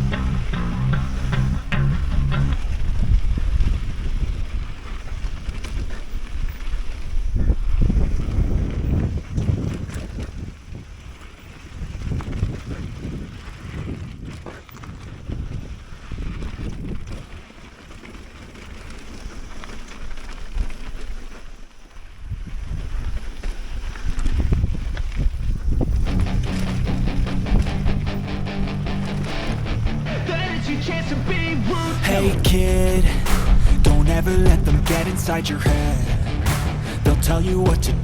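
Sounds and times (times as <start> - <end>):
wind buffeting microphone: 0.0 - 20.8, 22.2 - 38.0.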